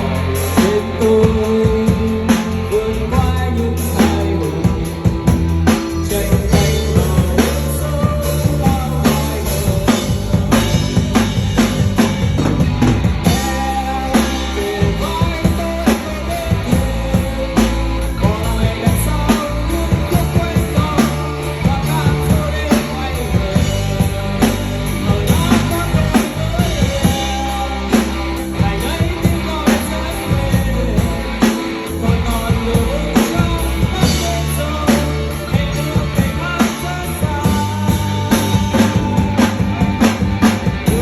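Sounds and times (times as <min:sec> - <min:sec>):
drum kit beat: 0:00.0 - 0:41.0
guitar: 0:00.0 - 0:41.0
person singing: 0:00.0 - 0:41.0.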